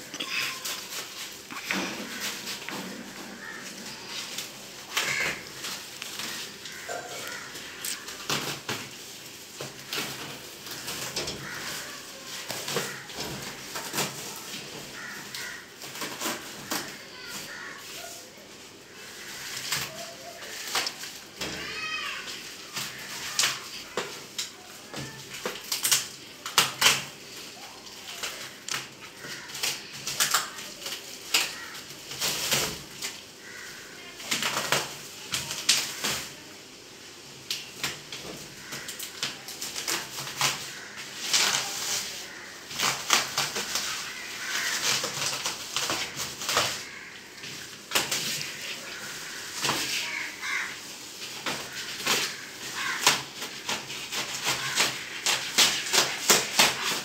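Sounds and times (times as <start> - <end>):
packing tape tearing: 0.0 - 18.2, 19.0 - 36.4, 37.4 - 57.0
bubble wrap crinkling: 0.0 - 57.0.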